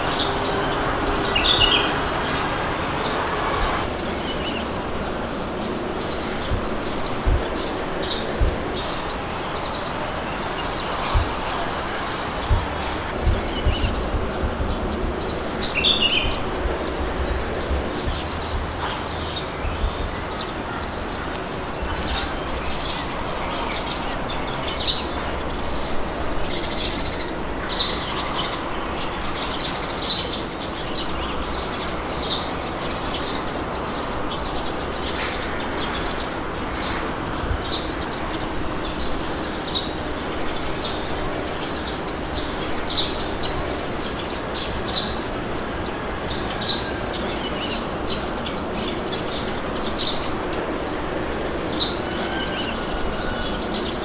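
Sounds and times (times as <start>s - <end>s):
small birds chirping: 0.0s - 54.0s
wind blowing with low rumble: 0.0s - 54.0s.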